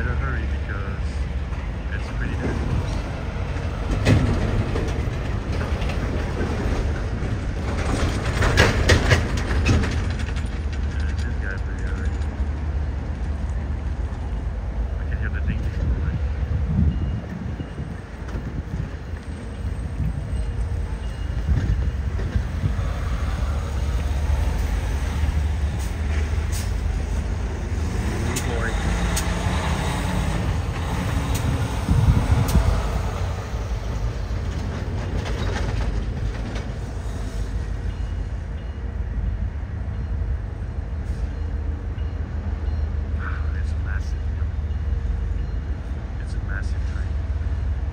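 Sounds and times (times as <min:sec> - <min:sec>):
wheels clacking over rail joints: 0:00.0 - 0:15.0, 0:15.6 - 0:47.9
freight train rumbling: 0:00.0 - 0:47.9.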